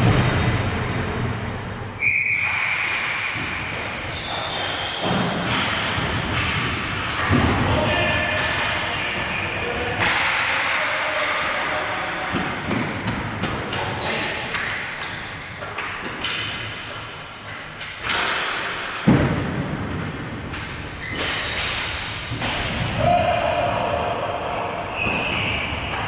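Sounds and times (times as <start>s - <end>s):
sticks and puck striking rink boards: 2.4s - 11.6s, 12.3s - 26.0s.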